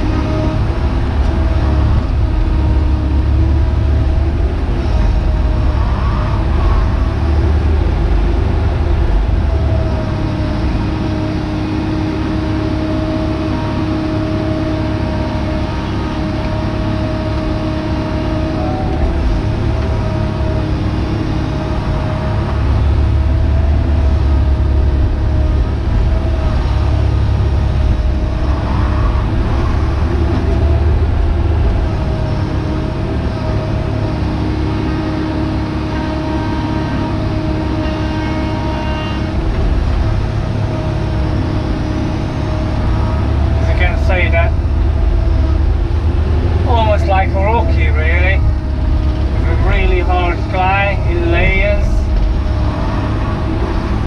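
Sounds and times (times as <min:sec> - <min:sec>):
excavator diesel engine and hydraulics: 0:00.0 - 0:54.0.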